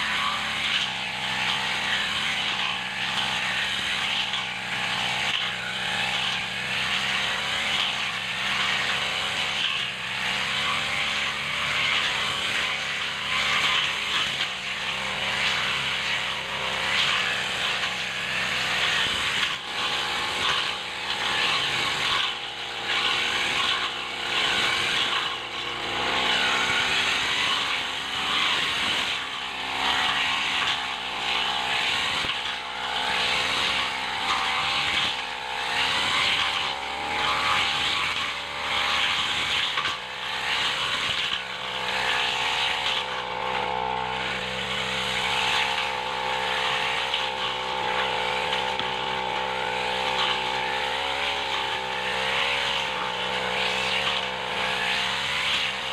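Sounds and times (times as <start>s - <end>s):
brush cutter engine running: 0.0s - 55.9s.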